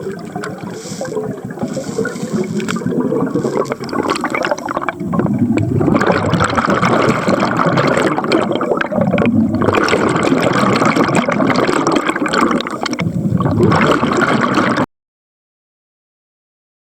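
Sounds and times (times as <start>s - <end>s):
underwater bubbling: 0.0s - 14.9s.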